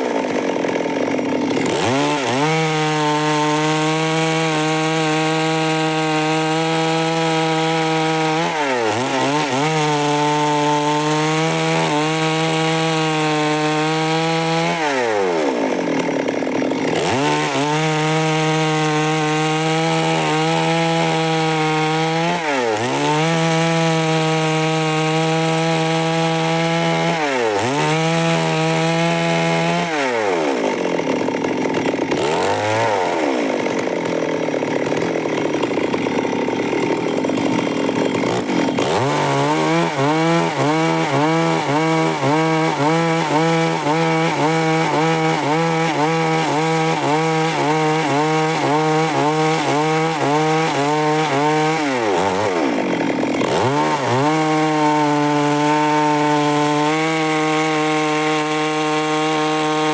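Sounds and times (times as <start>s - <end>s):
chainsaw cutting wood: 0.0s - 59.9s
rough sawing noise: 0.0s - 59.9s.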